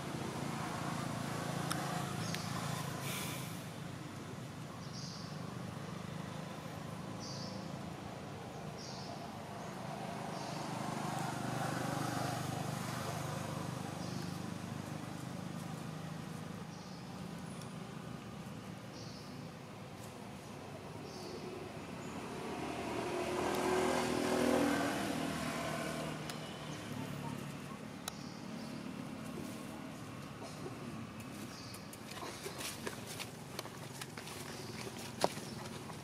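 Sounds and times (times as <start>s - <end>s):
distant traffic rumble: 0.0s - 36.0s.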